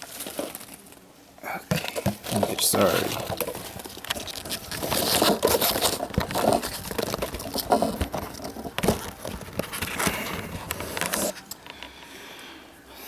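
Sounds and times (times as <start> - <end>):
packaging crinkling and rustling: 0.0 - 1.1, 1.7 - 11.9.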